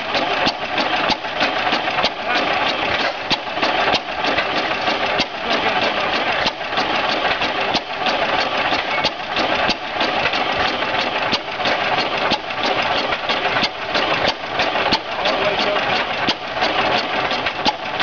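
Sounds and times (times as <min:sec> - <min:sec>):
engine firing with exhaust pops: 0:00.0 - 0:18.0.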